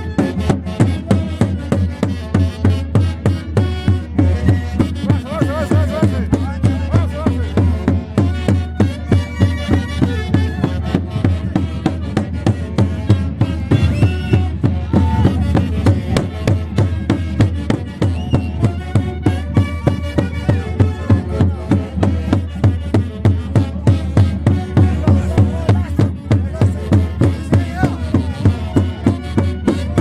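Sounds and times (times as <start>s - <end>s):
fast drumbeat: 0.2s - 30.0s.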